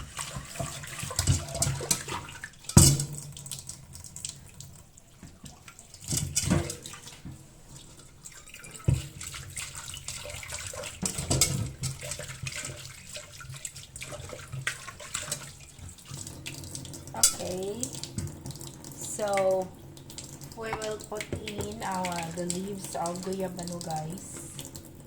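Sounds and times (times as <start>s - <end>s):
tap water splashing in sink: 0.0s - 25.0s.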